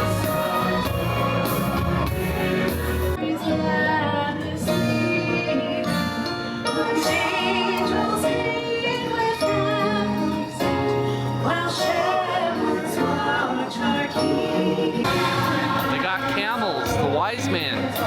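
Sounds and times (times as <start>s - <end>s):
choir singing with accompaniment: 0.0s - 18.0s.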